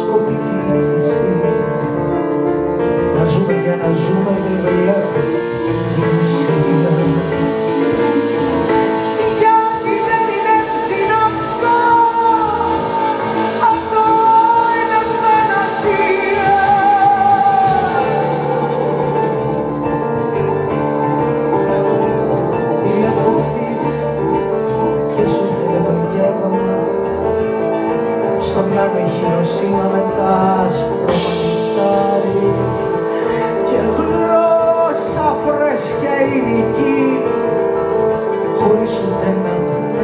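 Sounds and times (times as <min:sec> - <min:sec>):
live band playing: 0:00.0 - 0:40.0
wavering lead melody with vibrato: 0:00.0 - 0:40.0.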